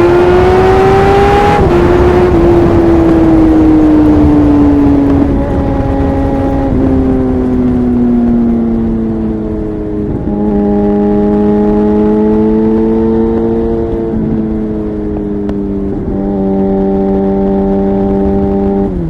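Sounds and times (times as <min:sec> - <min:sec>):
motorcycle engine running loud: 0:00.0 - 0:19.0.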